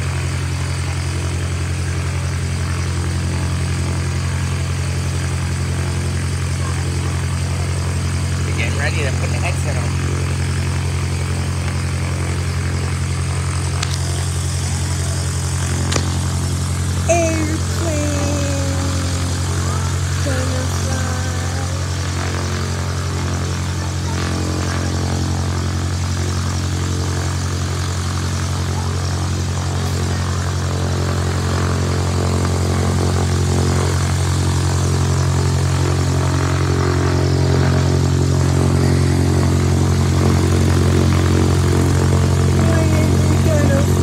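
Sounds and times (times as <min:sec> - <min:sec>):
propeller airplane engine droning: 0:00.0 - 0:44.0.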